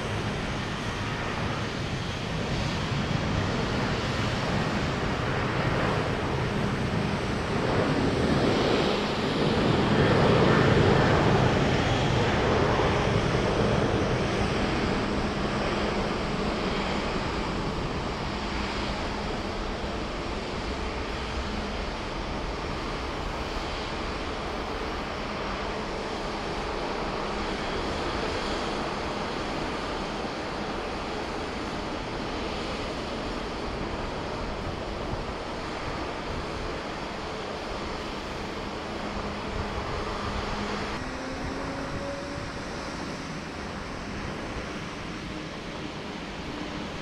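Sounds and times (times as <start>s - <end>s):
jet engines rumbling: 0.0s - 47.0s.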